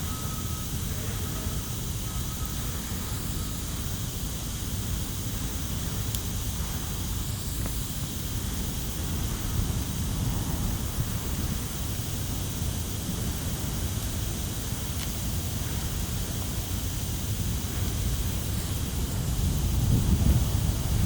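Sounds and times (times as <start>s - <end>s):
low rumble and hiss: 0.0s - 21.0s
campfire crackling: 0.3s - 21.0s.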